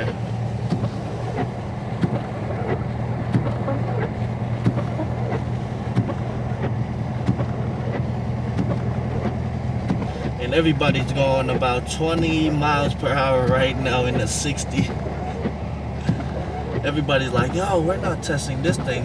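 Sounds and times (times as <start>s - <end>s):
car cabin drone: 0.0s - 19.0s
light ticking: 0.7s - 19.0s.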